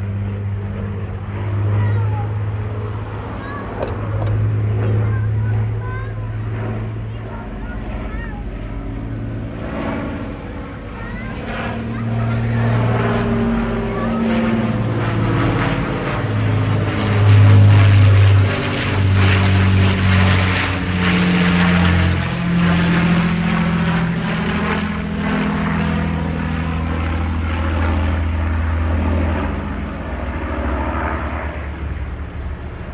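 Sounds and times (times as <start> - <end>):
propeller aircraft drone: 0.0 - 32.9.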